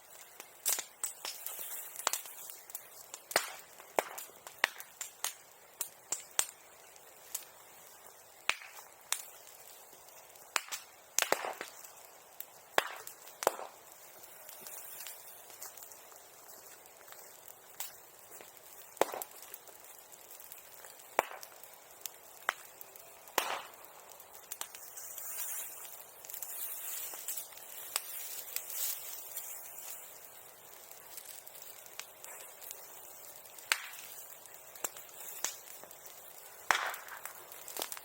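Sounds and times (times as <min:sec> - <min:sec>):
bonfire crackling: 0:00.0 - 0:38.0
fire hissing: 0:00.0 - 0:38.0
loud fire pops: 0:00.1 - 0:38.0.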